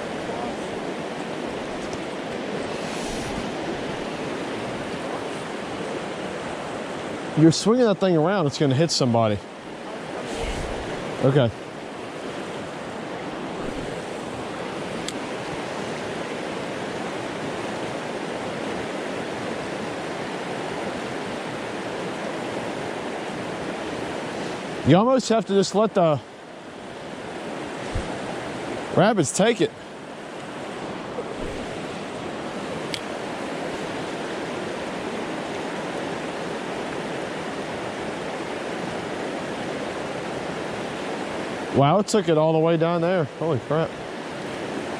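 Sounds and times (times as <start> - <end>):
river rapids rushing: 0.0 - 44.9.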